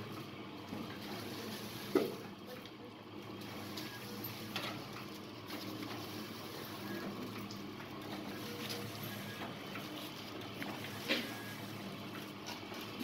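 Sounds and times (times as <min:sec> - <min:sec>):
machine motor hum: 0:00.0 - 0:13.0.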